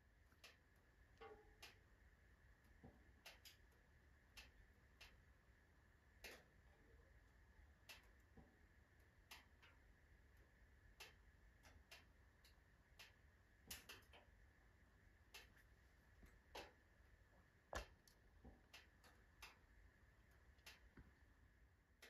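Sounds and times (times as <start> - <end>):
wood fire crackling in a stove: 0.0 - 22.0.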